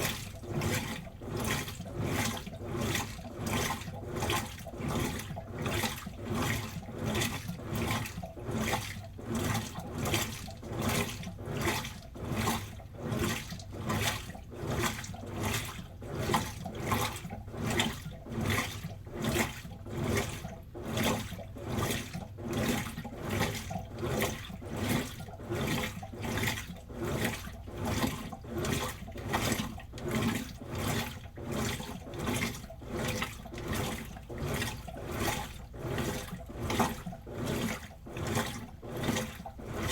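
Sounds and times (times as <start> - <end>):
washing machine drum sloshing: 0.0 - 39.9.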